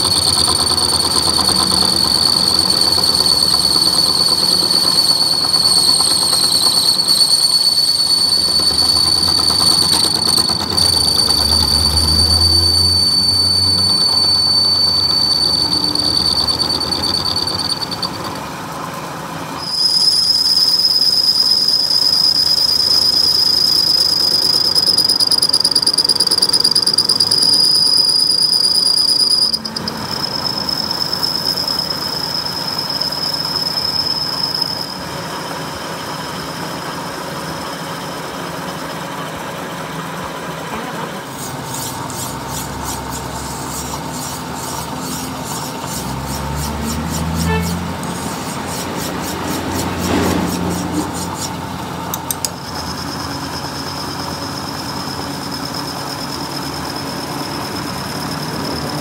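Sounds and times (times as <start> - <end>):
grinding wheel squealing whine: 0.0 - 59.0.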